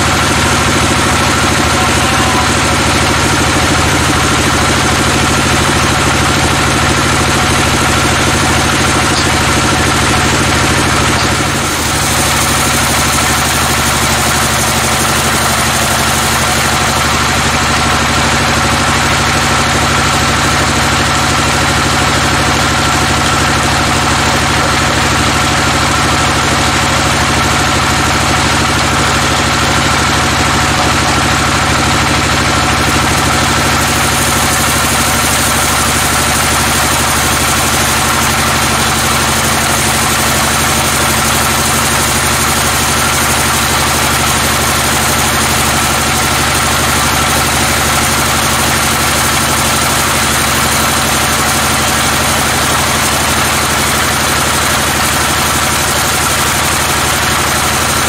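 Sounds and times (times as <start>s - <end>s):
band saw blade cutting log: 0.0s - 20.4s, 21.4s - 58.0s
machine drive humming: 0.0s - 58.0s.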